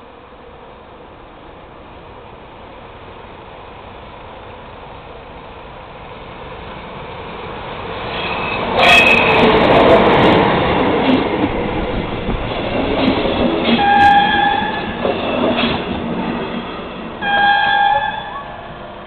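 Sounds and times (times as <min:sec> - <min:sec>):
train coaches rolling on rails: 0:00.0 - 0:19.0.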